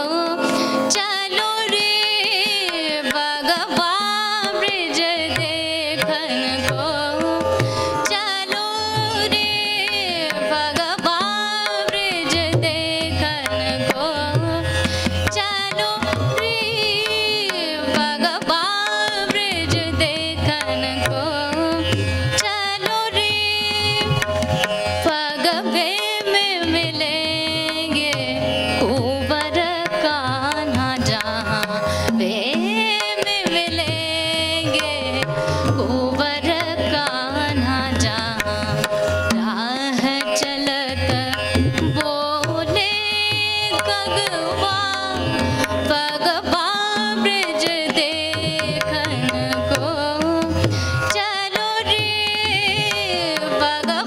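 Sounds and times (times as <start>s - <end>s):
woman singing classical vocals: 0.0s - 24.3s, 25.0s - 54.0s
tabla strokes: 0.0s - 54.0s.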